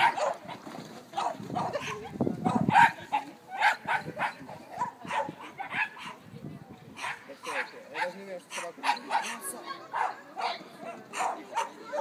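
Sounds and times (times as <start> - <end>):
dog barking excitedly: 0.0 - 0.6, 1.2 - 6.2, 7.0 - 12.0.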